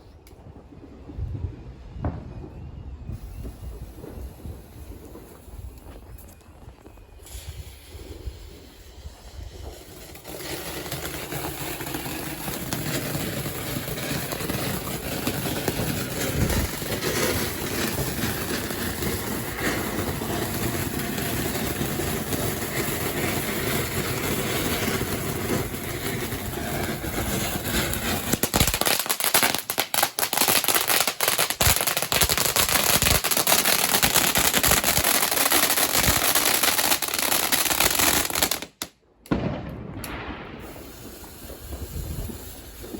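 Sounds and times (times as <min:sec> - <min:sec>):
fireworks hissing and crackling: 0:00.0 - 0:42.9.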